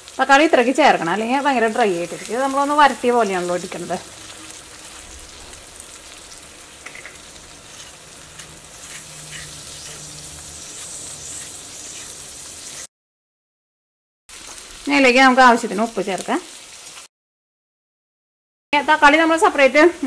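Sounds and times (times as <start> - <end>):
food sizzling in oil: 0.0 - 12.9, 14.3 - 17.1, 18.8 - 20.0.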